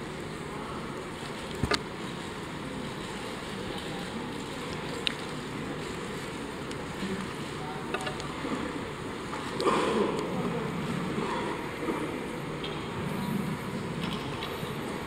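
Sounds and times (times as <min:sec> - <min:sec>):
low hall background noise: 0:00.0 - 0:15.0.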